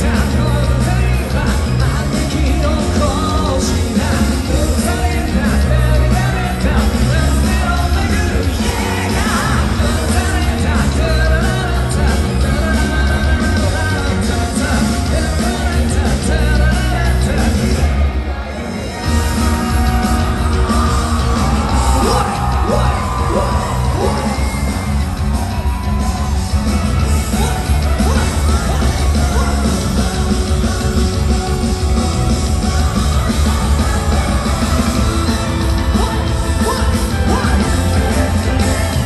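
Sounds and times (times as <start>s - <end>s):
crowd yelling along: 0.0s - 39.0s
loud live rock music: 0.0s - 39.0s.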